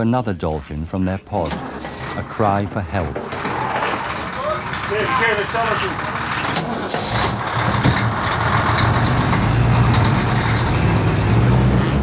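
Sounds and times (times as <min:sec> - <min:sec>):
road noise: 0:01.4 - 0:12.0
truck engine hum: 0:01.5 - 0:12.0.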